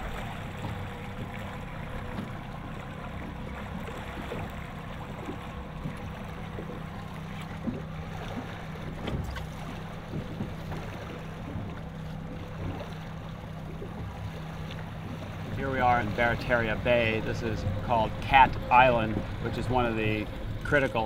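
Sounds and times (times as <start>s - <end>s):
boat motor running: 0.0s - 21.0s
water noise: 0.0s - 21.0s.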